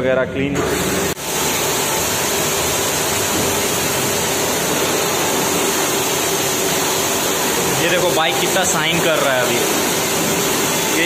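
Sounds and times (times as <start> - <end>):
pressure washer spraying water: 0.6 - 11.0.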